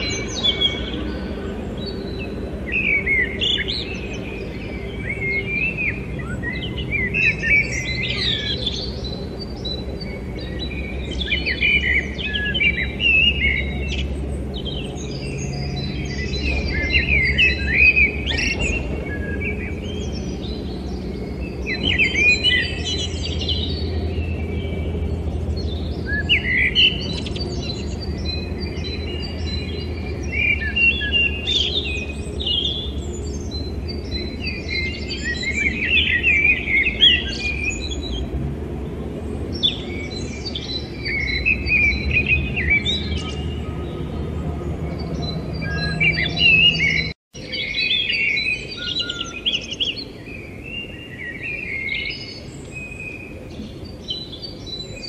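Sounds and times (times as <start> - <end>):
steady low hum: 0.0 - 47.2
songbird chirps and trills: 0.0 - 55.0.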